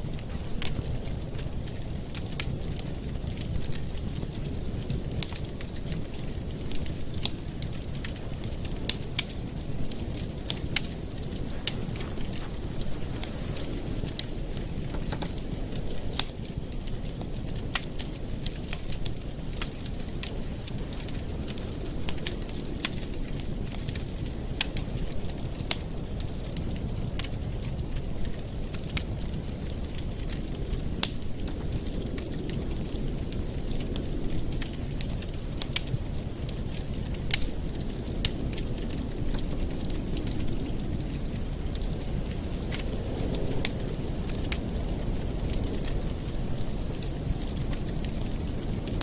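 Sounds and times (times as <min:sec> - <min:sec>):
campfire crackling and popping: 0:00.0 - 0:49.0
low rumble of flames: 0:00.0 - 0:49.0.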